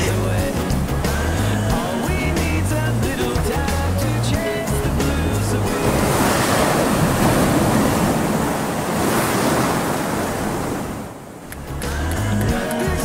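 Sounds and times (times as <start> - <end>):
waves breaking over rocks: 0.0 - 11.9.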